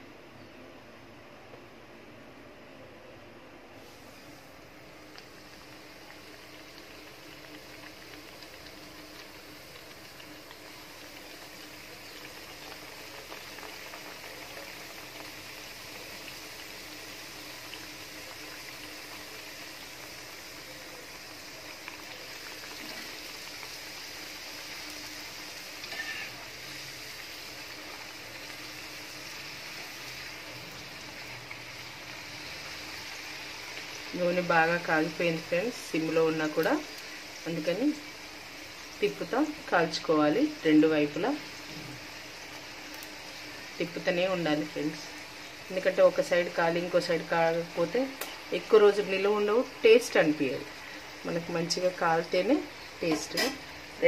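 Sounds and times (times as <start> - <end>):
pastries deep-frying in oil: 3.7 - 54.0.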